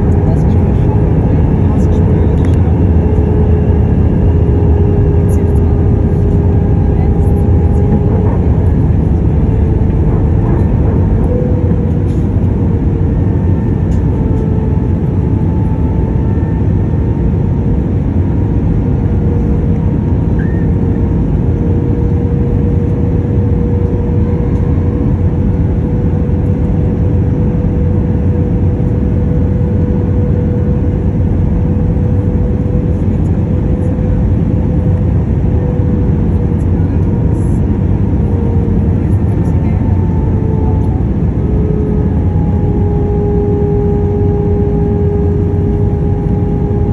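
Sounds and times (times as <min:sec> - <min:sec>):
airflow and engine roar: 0:00.0 - 0:46.9
engine hum: 0:00.0 - 0:46.9.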